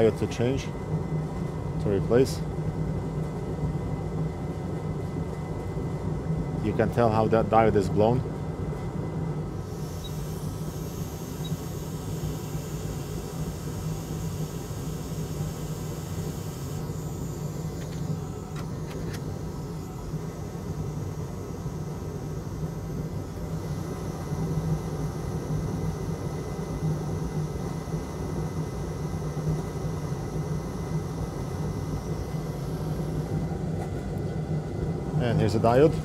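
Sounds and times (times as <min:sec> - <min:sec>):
machine fan hum: 0:00.0 - 0:36.0.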